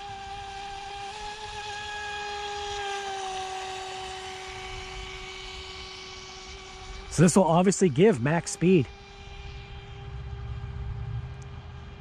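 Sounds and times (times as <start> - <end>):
rc boat motor whining: 0.0 - 12.0.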